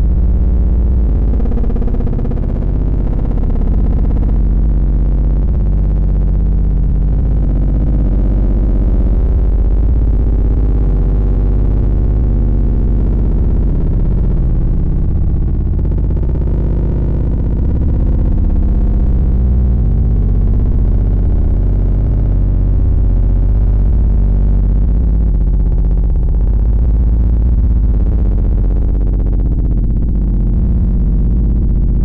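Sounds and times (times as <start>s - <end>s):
synthesized deep bass: 0.0s - 32.0s.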